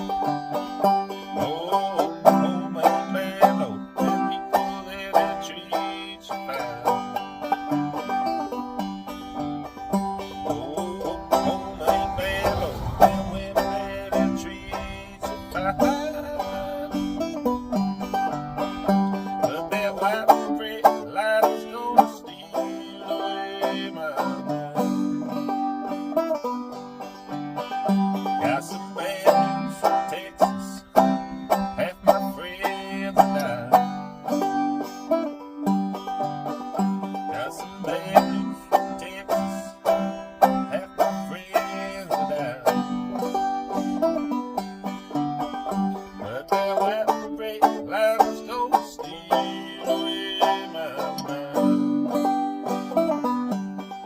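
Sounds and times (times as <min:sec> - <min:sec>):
banjo plucking and strumming: 0:00.0 - 0:54.0.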